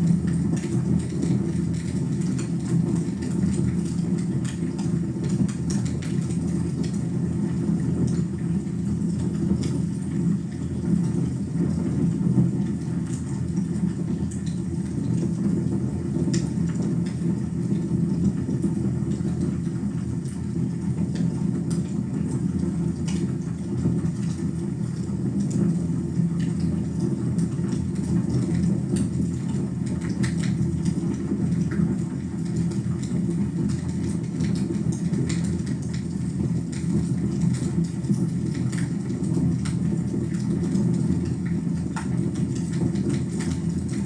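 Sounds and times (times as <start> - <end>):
low rumble of flames: 0.0 - 44.0.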